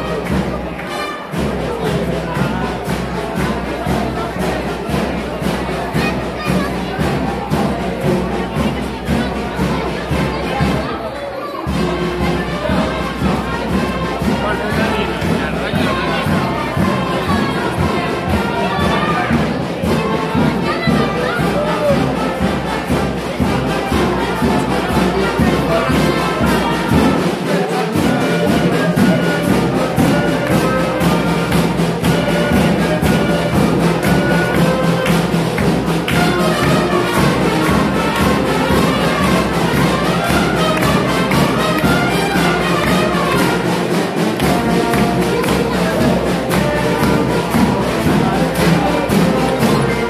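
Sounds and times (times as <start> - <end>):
steady drumbeat: 0.0 - 50.0
wind instruments playing melody: 0.0 - 50.0.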